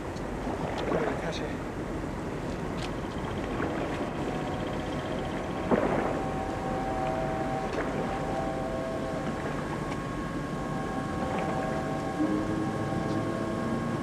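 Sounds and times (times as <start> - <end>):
low rumble of ships and water: 0.0 - 14.0.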